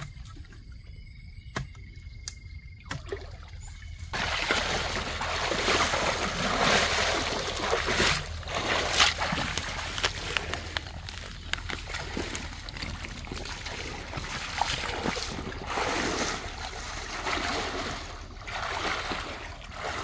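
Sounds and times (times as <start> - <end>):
splashing muddy water: 2.8 - 20.0.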